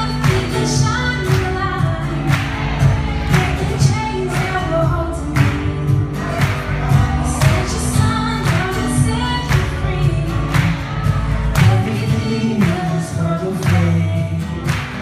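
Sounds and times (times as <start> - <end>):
live band playing pop-rock: 0.0 - 15.0.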